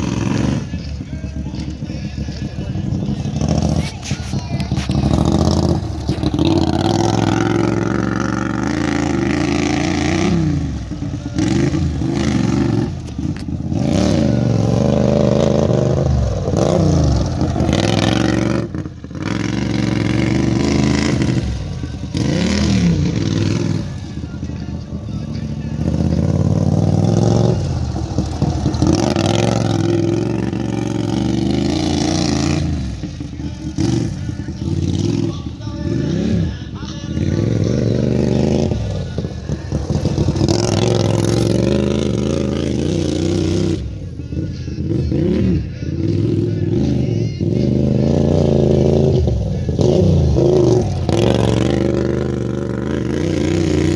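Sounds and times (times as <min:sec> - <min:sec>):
lawn mower engine revving: 0:00.0 - 0:24.5, 0:25.3 - 0:36.6, 0:37.2 - 0:44.0, 0:44.9 - 0:53.9.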